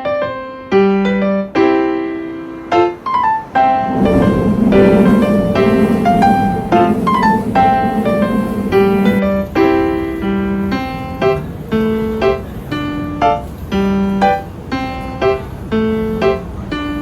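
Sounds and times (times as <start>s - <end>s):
solo piano: 0.0s - 17.0s.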